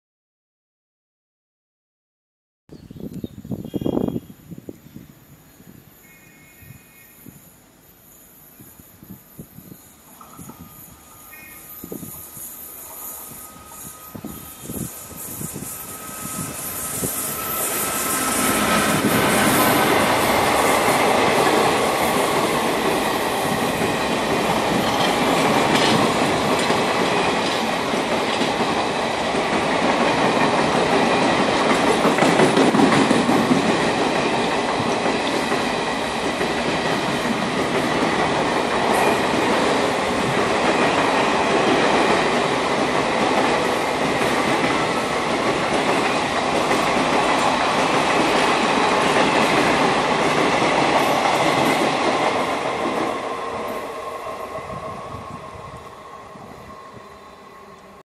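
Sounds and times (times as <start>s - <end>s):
train wheels rumbling and rattling: 8.5s - 57.1s.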